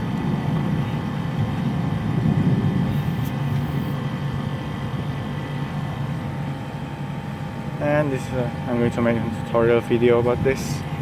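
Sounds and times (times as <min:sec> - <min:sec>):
compressor hum: 0:00.0 - 0:11.0
condenser fan rushing: 0:00.0 - 0:11.0.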